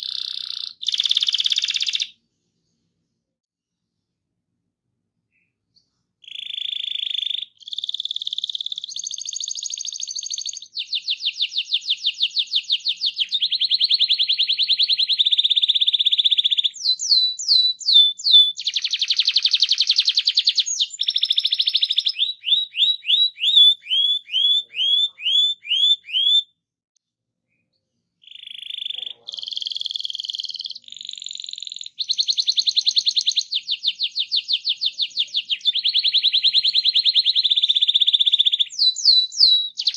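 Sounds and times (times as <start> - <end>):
canary singing trills: 0.0 - 2.2, 5.3 - 26.6, 27.5 - 39.9.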